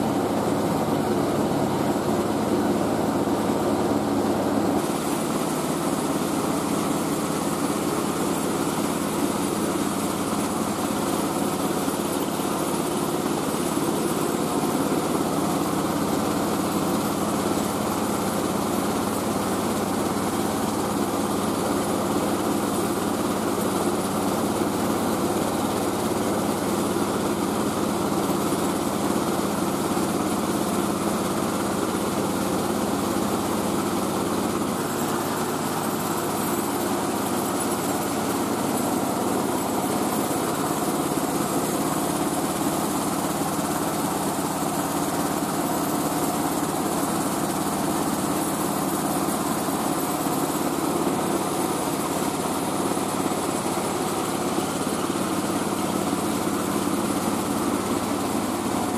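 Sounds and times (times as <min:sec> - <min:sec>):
rice mill machine droning: 0:00.0 - 0:58.9.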